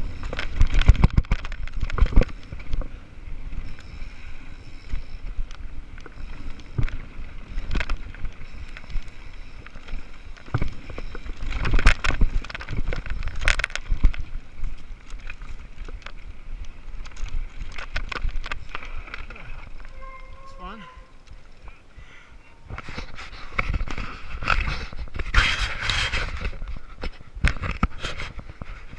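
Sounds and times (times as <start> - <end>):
bike rattling over bumps: 0.0 - 28.9
bike tyres rumbling over dirt: 0.0 - 28.9
wind on microphone: 0.0 - 28.9.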